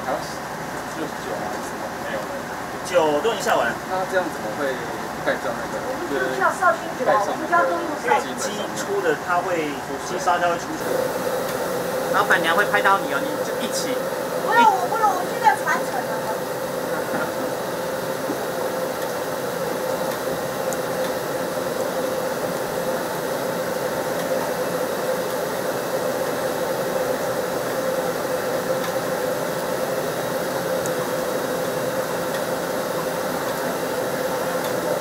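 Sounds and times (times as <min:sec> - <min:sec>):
exhaust fan running: 0:00.0 - 0:35.0.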